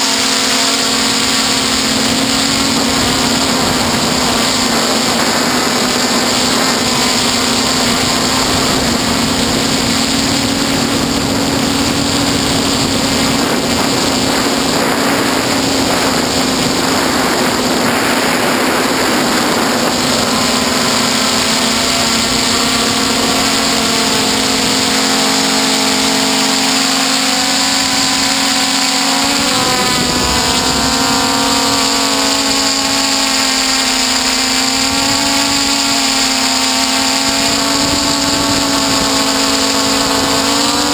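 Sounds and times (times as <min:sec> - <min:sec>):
drone motors buzzing: 0:00.0 - 0:40.9.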